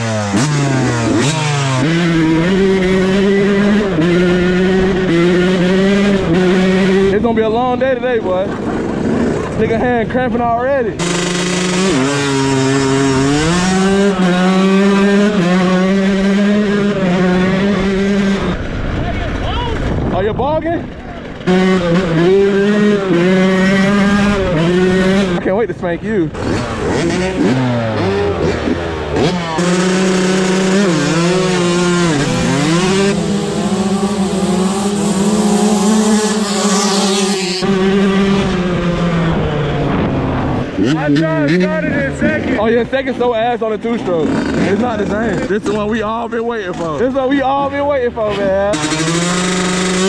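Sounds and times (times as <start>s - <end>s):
dirt bike engine at high revs: 0.0s - 50.0s.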